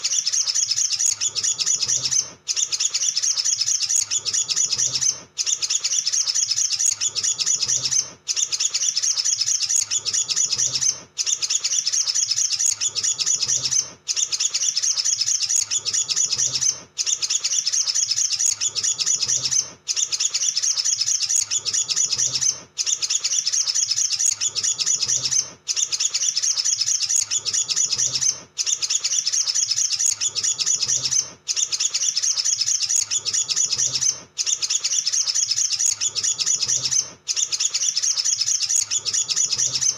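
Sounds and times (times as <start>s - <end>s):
bird chattering twitter: 0.0s - 39.9s.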